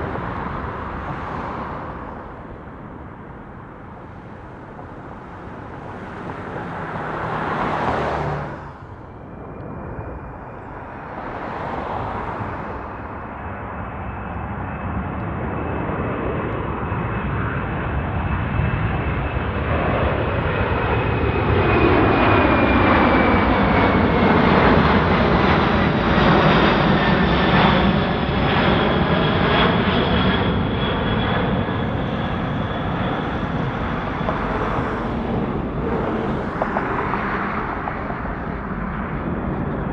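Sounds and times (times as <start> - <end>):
jet aircraft passing overhead: 0.0 - 39.9.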